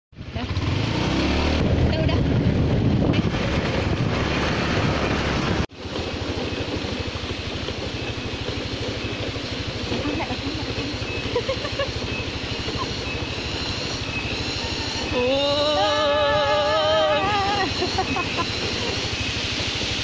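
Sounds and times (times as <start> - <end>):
motorcycle engine running: 0.1 - 20.0.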